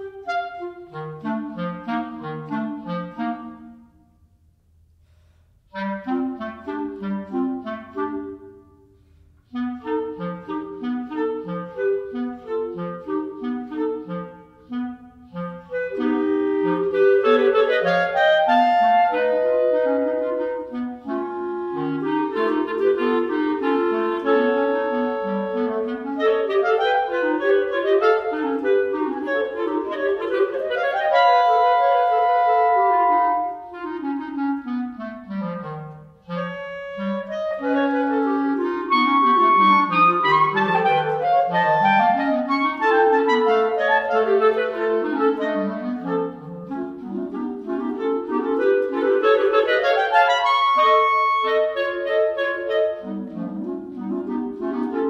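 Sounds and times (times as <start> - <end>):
clarinet trio playing: 0.0 - 4.5, 5.6 - 55.0.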